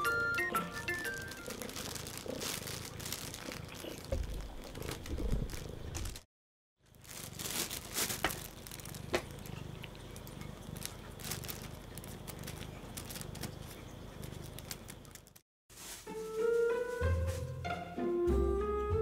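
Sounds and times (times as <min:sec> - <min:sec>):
rustling of fur and fabric: 0:00.8 - 0:06.3, 0:06.9 - 0:09.5, 0:10.1 - 0:17.6.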